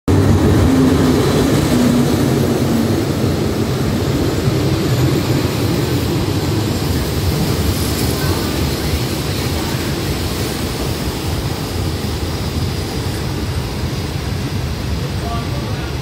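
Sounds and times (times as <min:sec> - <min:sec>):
diesel locomotive engine: 0:00.1 - 0:16.0
train rumbling on rails: 0:00.1 - 0:16.0.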